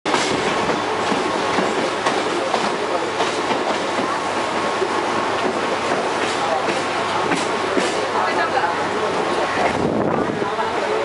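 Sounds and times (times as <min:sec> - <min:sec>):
train rumbling along track: 0:00.1 - 0:11.0.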